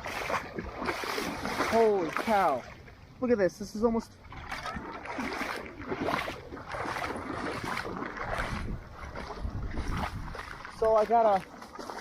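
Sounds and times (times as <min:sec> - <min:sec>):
wading through floodwater: 0:00.0 - 0:12.0.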